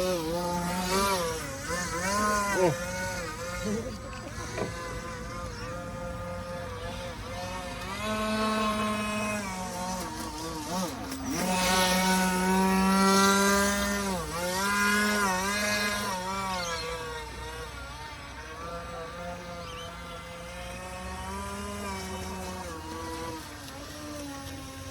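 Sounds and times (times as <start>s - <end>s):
model boat motor whining: 0.0s - 24.9s.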